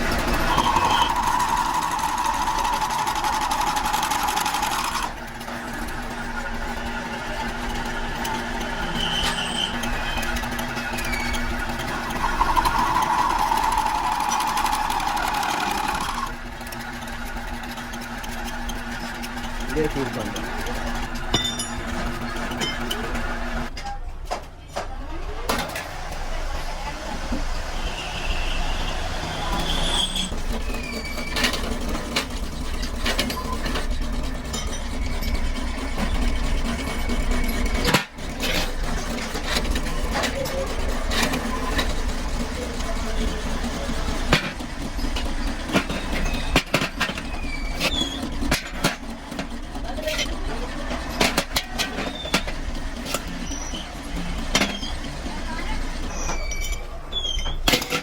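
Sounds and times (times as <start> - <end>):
machine tool whining: 0.0 - 23.8, 25.6 - 58.0
sharp metallic clicks and knocks: 0.0 - 24.9, 30.3 - 58.0.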